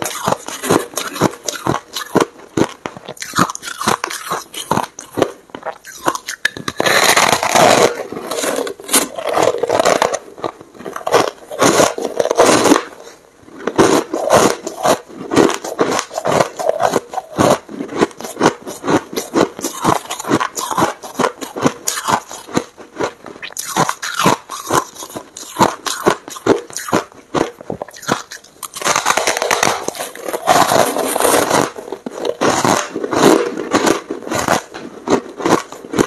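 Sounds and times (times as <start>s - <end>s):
chewing crunchy ice: 0.0s - 36.0s.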